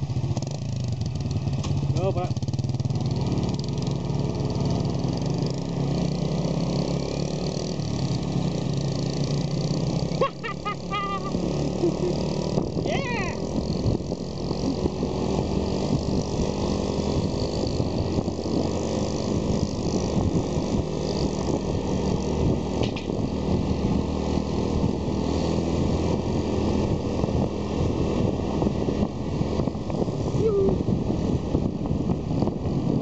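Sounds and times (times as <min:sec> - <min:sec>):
motorcycle engine running: 0:00.0 - 0:33.0
road noise: 0:00.0 - 0:33.0.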